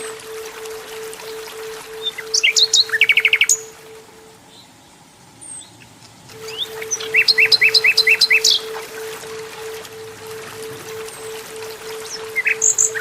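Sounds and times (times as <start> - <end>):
nightingale singing: 0.0 - 4.7, 6.3 - 13.0.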